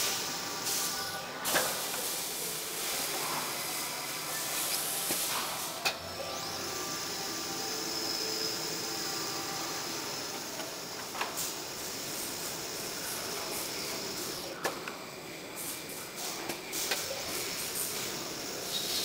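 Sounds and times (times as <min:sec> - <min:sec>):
lathe whirring with hiss: 0:00.0 - 0:19.0.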